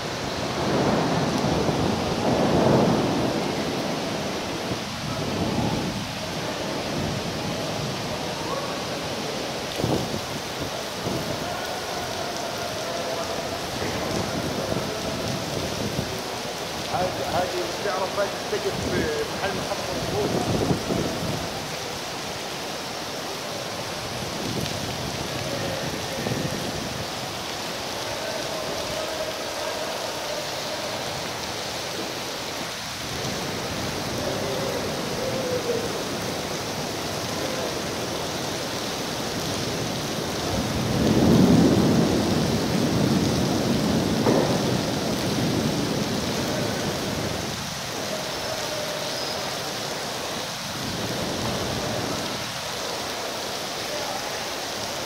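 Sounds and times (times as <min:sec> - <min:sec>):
rainwater pouring and splashing: 0:00.0 - 0:55.0.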